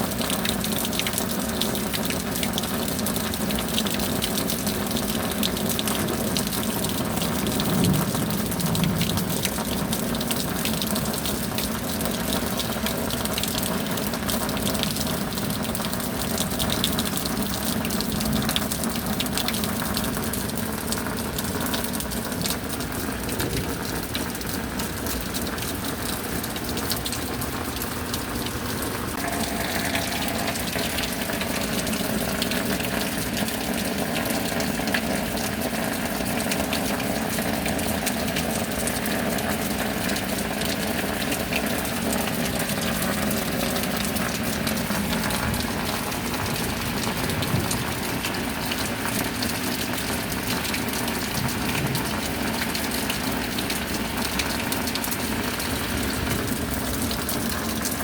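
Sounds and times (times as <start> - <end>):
rain falling: 0.0 - 58.0
close raindrop hits: 3.4 - 58.0.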